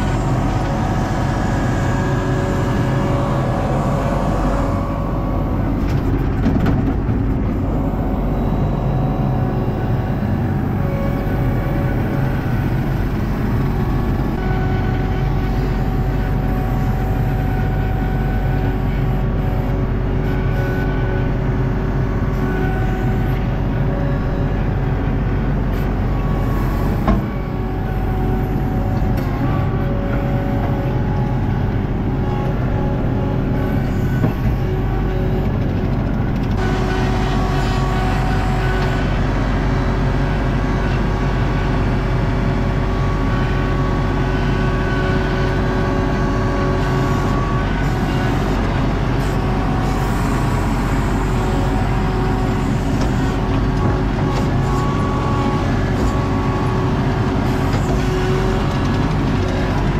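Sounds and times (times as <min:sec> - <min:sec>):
skid steer engine running: 0:00.0 - 0:59.9.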